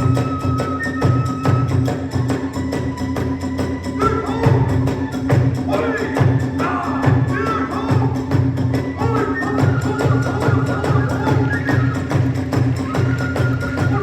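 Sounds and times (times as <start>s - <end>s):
bamboo flute long high notes: 0.0s - 14.0s.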